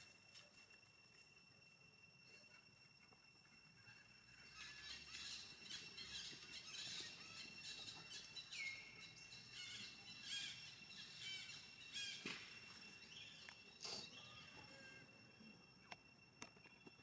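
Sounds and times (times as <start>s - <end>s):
faint steady high whine: 0.0s - 17.0s.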